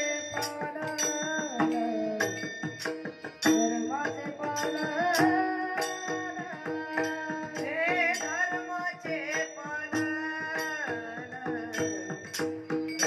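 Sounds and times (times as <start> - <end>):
boy singing devotional melody: 0.0 - 12.7
hand cymbals striking: 0.0 - 13.0.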